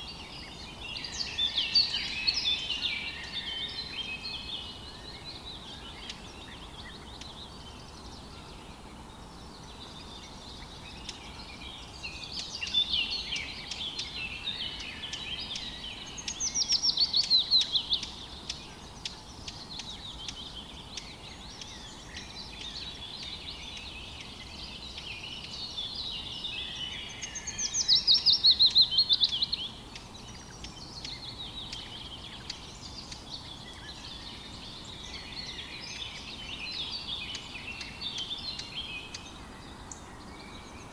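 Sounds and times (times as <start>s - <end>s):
faint background noise: 0.0s - 40.9s
songbirds singing and calling: 0.0s - 40.9s.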